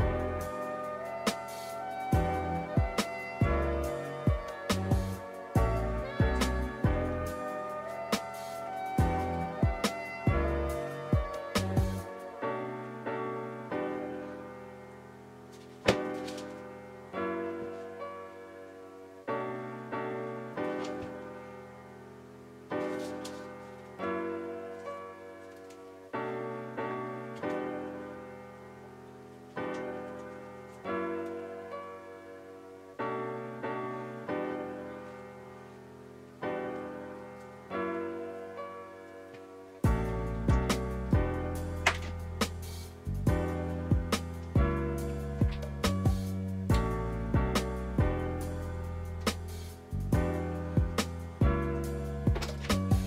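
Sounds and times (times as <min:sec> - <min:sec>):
mellow piano chords: 0:00.0 - 0:53.0.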